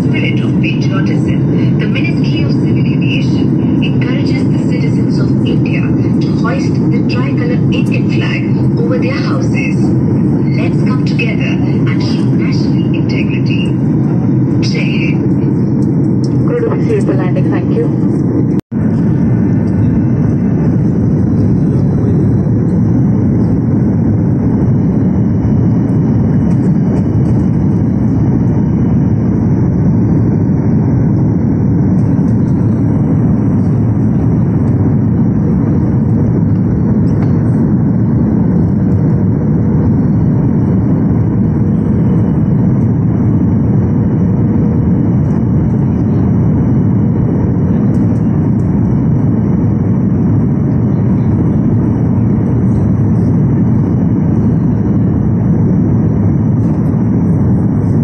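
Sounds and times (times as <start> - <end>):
airflow over fuselage: 0.0 - 58.0
jet engines humming: 0.0 - 58.0.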